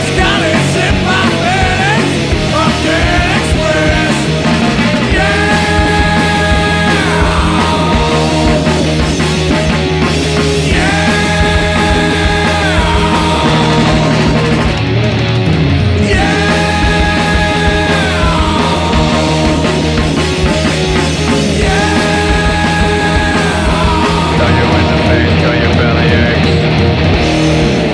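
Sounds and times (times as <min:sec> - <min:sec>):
rock music: 0:00.0 - 0:27.9.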